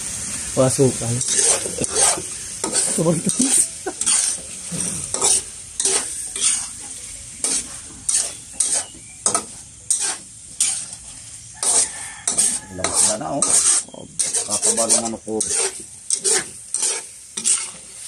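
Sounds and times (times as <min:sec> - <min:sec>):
food sizzling in a pan: 0:00.0 - 0:18.0
utensil scraping a pan: 0:01.0 - 0:18.0.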